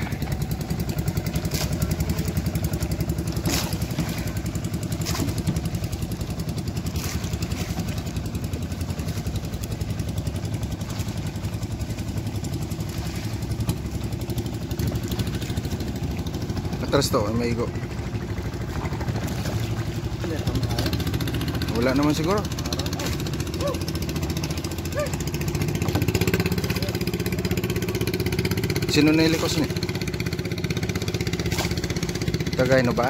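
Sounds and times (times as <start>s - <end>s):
boat engine chugging: 0.0s - 33.0s.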